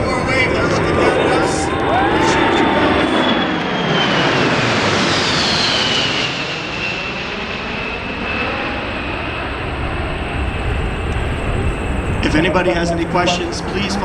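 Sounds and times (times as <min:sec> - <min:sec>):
jet aircraft passing low: 0:00.0 - 0:14.0.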